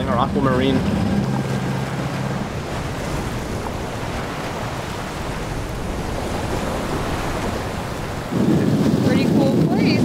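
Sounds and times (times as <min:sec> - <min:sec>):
waves washing along hull: 0:00.0 - 0:10.0
wind across microphone: 0:00.0 - 0:10.0.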